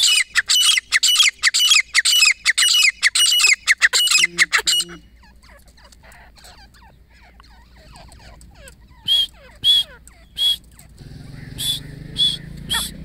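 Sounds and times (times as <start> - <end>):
francolins calling: 0.0 - 13.0.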